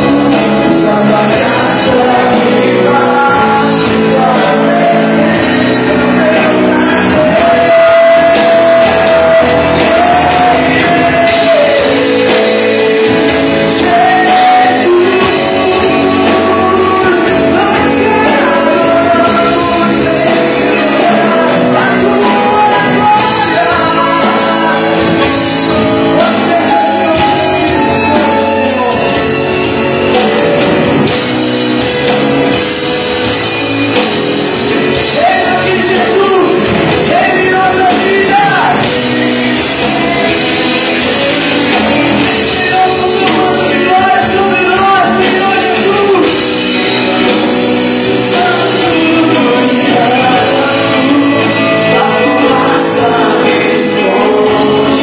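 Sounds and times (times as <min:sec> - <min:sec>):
worship song with band: 0:00.0 - 0:55.0.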